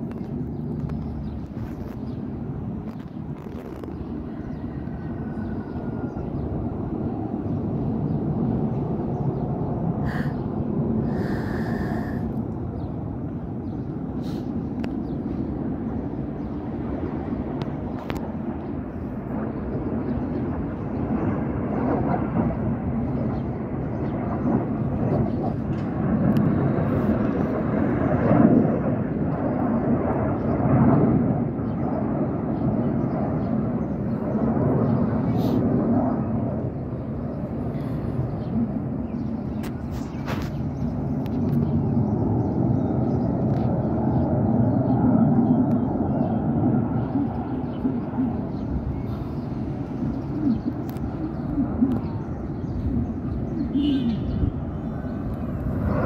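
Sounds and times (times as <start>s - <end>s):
distant jet engine roar: 0.0s - 56.0s.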